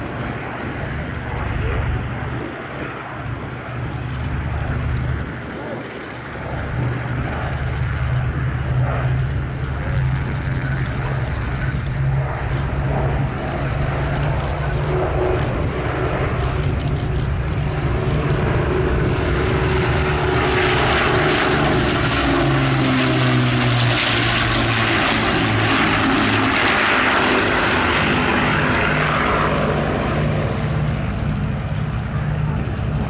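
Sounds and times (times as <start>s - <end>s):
propeller aircraft engines droning: 0.0s - 33.0s.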